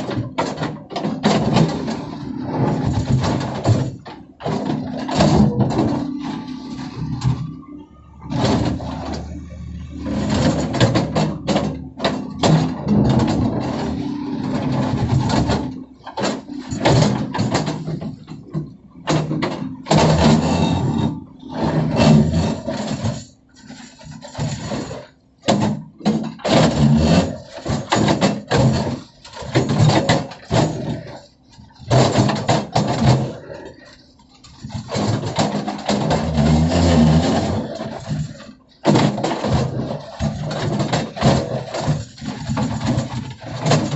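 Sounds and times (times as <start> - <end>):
bucket clanking and scraping: 0.0 - 43.9
excavator diesel engine under load: 0.0 - 43.9.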